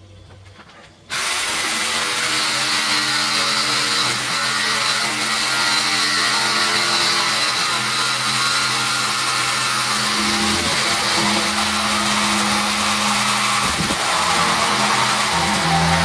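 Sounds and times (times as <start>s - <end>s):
power tool cutting pipe: 1.1s - 16.0s.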